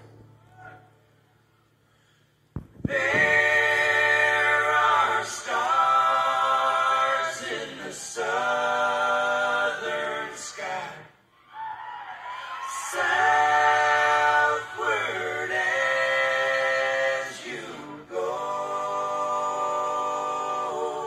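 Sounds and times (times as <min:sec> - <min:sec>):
choir singing held chords: 0:02.9 - 0:11.3, 0:12.1 - 0:21.0.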